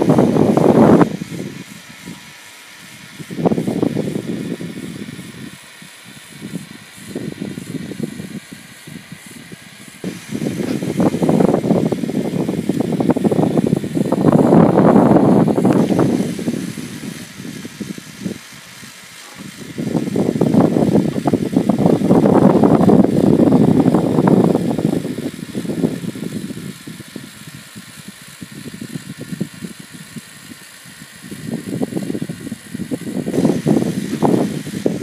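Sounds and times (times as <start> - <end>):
motor whir: 0.0 - 35.0.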